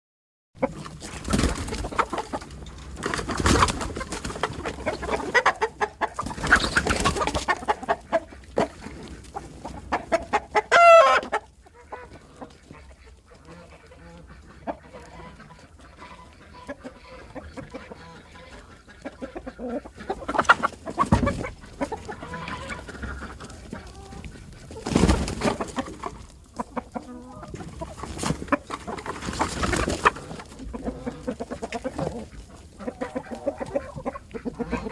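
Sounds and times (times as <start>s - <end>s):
chicken clucking and squawking: 0.6s - 34.9s.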